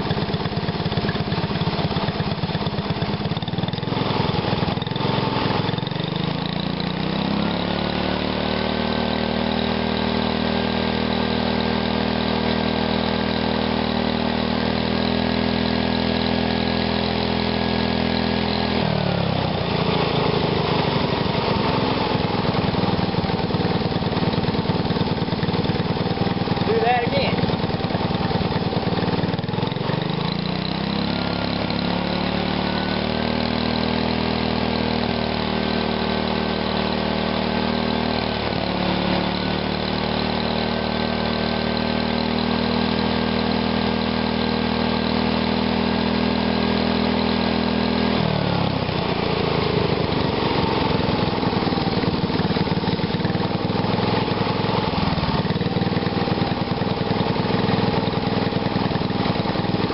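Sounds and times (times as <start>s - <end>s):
small engine revving: 0.0s - 59.9s.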